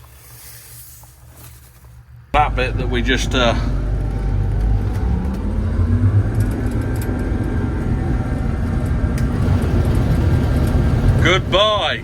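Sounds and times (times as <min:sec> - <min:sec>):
combine harvester engine rumble: 0:02.3 - 0:12.0.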